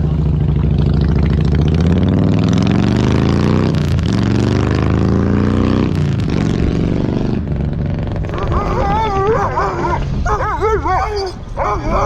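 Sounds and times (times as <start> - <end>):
vehicle engine accelerating: 0.0 - 10.4.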